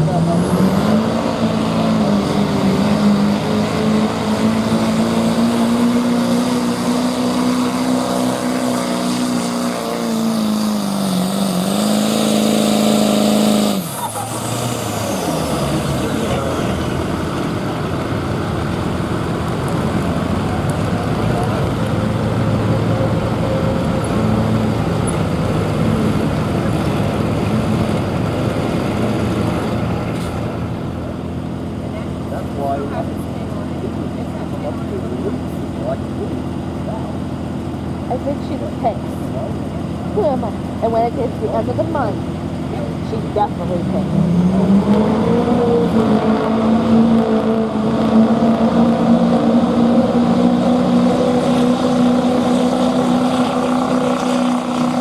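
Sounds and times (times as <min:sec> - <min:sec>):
truck engine high-revving: 0:00.0 - 0:55.0.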